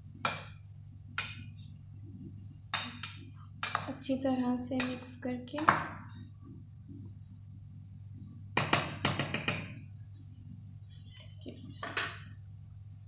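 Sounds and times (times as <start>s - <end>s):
steady low hum: 0.0s - 9.0s, 9.7s - 13.0s.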